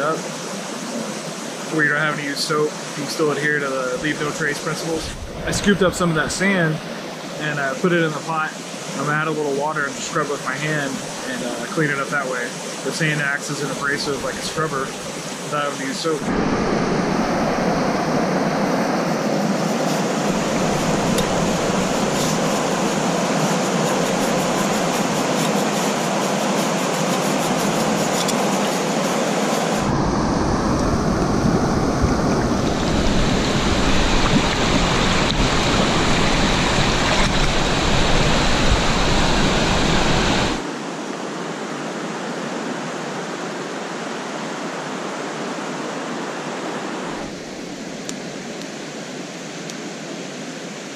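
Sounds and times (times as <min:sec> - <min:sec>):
rushing mountain river: 0:00.0 - 0:50.9.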